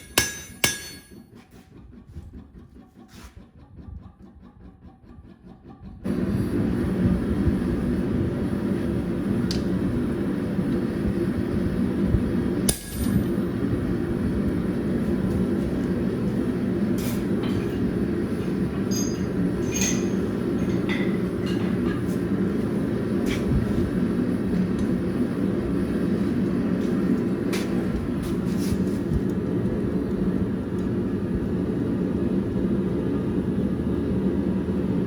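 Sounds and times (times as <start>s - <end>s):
low mechanical roar: 0.0s - 35.0s.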